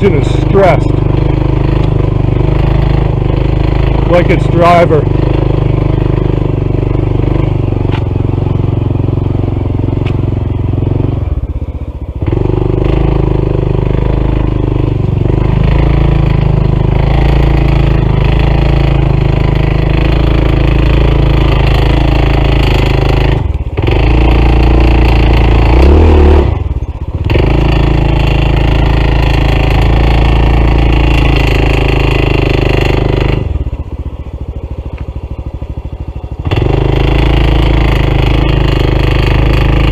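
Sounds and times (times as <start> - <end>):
motorcycle engine labouring: 0.0 - 39.9.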